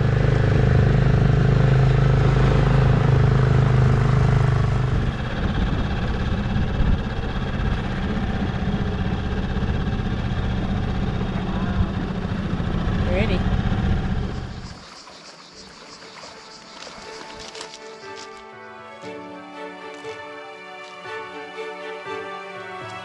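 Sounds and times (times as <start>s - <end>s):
outboard motor running: 0.0s - 20.4s.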